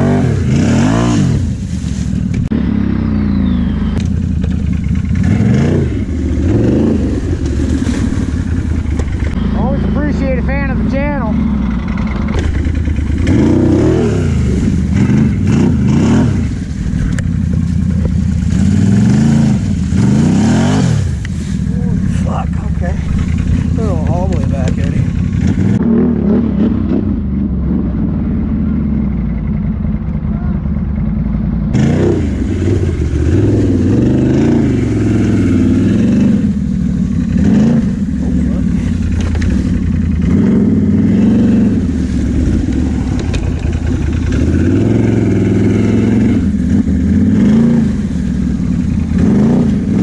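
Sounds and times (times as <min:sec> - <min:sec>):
atv engine revving: 0:00.0 - 0:50.0.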